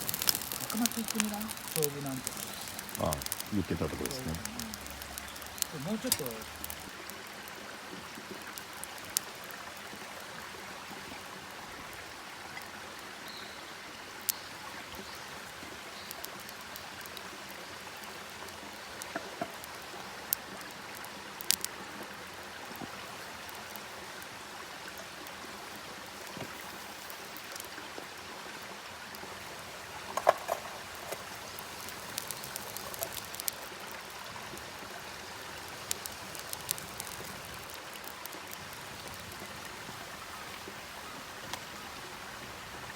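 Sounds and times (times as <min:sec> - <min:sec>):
campfire crackling: 0:00.0 - 0:12.9, 0:14.2 - 0:42.9.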